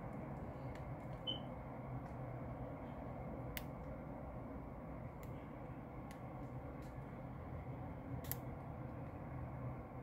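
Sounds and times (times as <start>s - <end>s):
muffled road traffic rumble: 0.0s - 10.0s.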